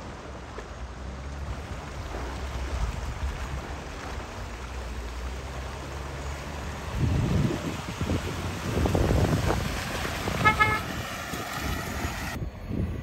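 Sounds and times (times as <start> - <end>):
water sloshing and splashing: 0.0 - 12.4
engine running at low revs: 0.0 - 13.0.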